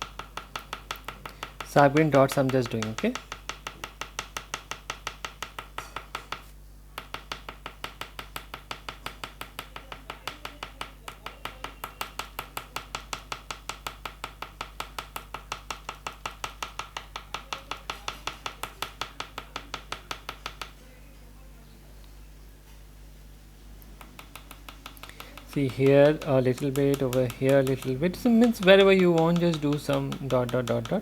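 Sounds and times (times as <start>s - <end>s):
pastel stick tapping on paper: 0.0s - 20.8s, 23.9s - 31.0s.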